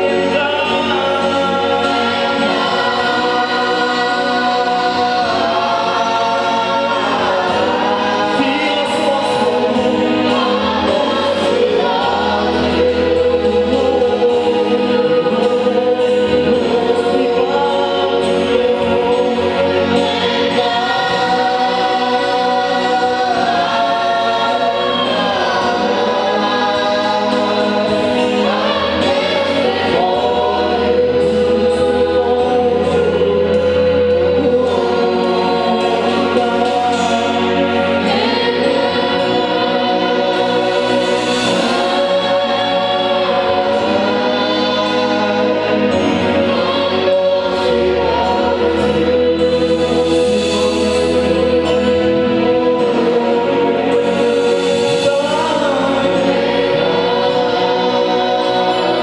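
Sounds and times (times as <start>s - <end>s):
choir singing slow worship song: 0.0s - 59.0s.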